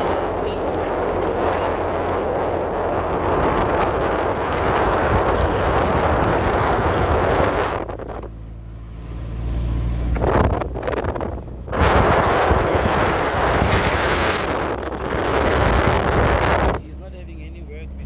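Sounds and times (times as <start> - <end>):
low engine hum: 0.0 - 18.0
wind and road noise rushing: 0.0 - 18.0.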